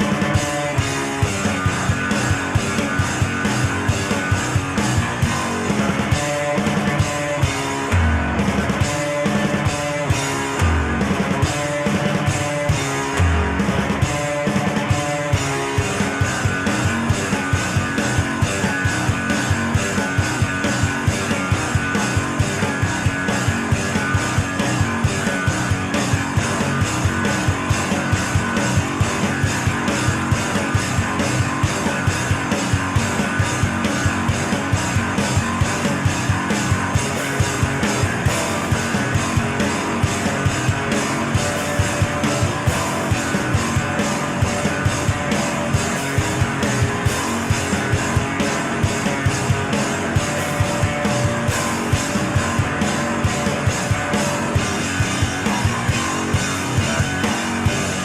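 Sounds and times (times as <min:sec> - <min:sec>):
rock music with guitar: 0:00.0 - 0:58.0.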